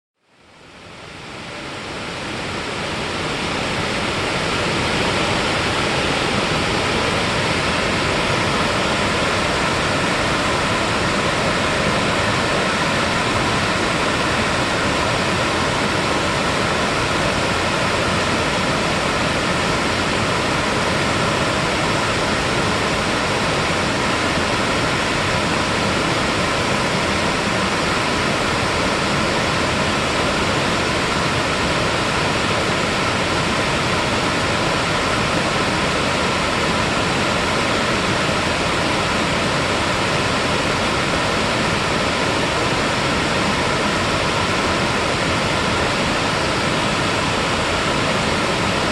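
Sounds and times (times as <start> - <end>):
stream water rushing: 0.4 - 48.9.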